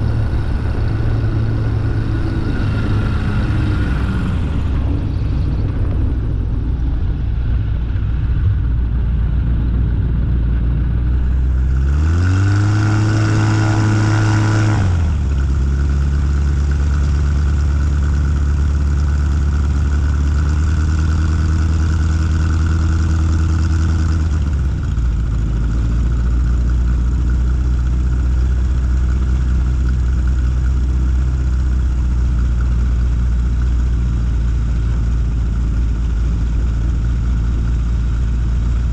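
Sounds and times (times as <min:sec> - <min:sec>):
aircraft engine and propeller: 0:00.0 - 0:38.9.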